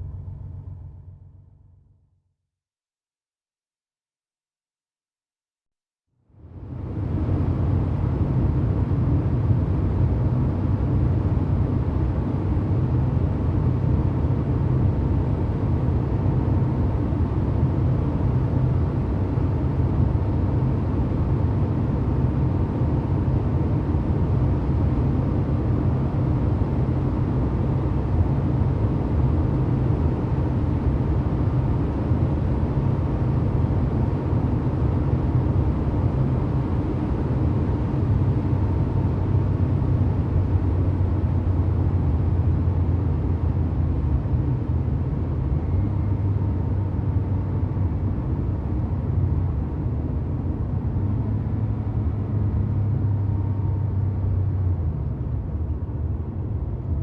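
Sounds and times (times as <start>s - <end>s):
car engine running steadily: 0.0s - 2.1s, 6.2s - 57.0s.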